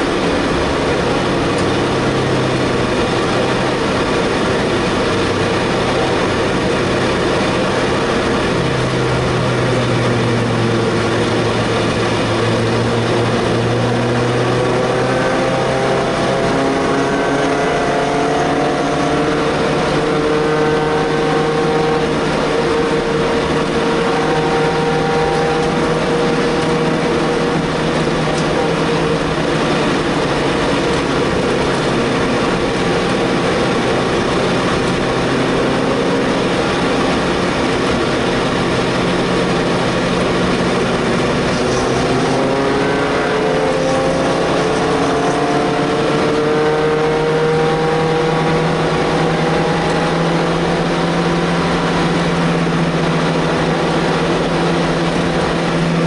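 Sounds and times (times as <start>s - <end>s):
race car engine from inside cabin: 0.0s - 56.0s.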